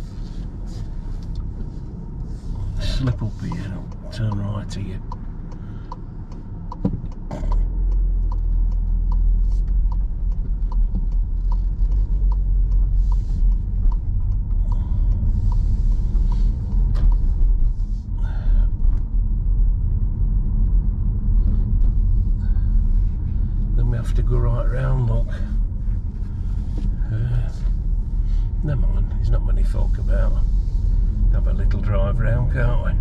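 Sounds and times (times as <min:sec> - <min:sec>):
car engine and road rumble: 0:00.0 - 0:33.0
turn indicator ticking: 0:00.1 - 0:33.0.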